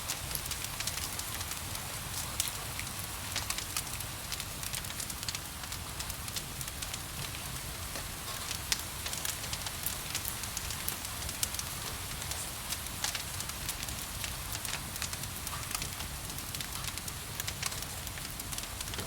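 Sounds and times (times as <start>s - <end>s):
gentle rain: 0.0s - 19.0s
wood fire crackling: 0.0s - 19.0s.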